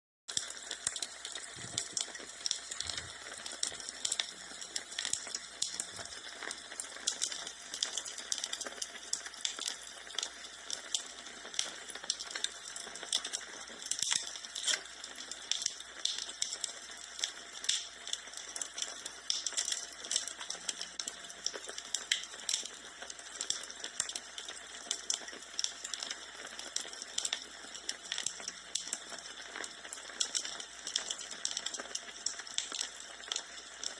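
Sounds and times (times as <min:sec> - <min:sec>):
fireplace fire crackling: 0:00.3 - 0:33.9.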